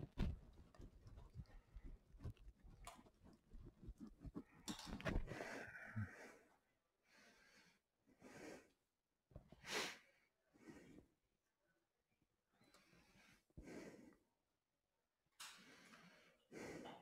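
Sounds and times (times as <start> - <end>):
faint breaths and sniffs: 0.1 - 8.9, 9.5 - 11.2, 12.6 - 14.4, 15.4 - 17.0.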